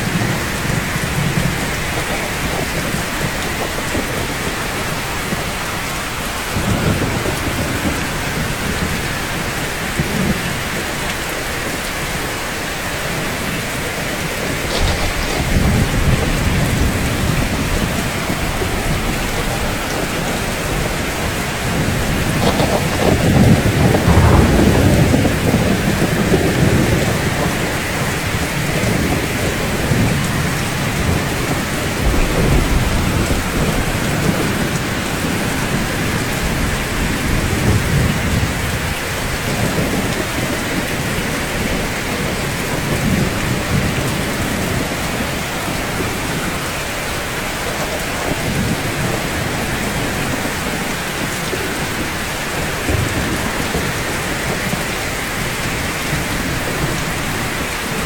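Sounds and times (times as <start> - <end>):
rain on rooftops: 0.0 - 58.0
thunder rumbles: 0.0 - 58.0.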